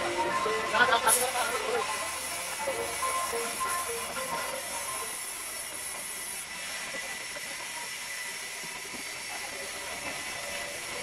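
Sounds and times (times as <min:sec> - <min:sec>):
sawmill machinery hissing: 0:00.0 - 0:11.0
thin machine whine: 0:00.0 - 0:11.0.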